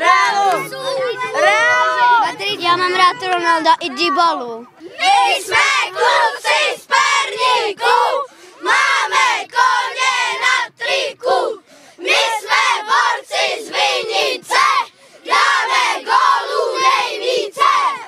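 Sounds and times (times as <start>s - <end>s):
boys chanting in shouted bursts: 0.0s - 18.0s.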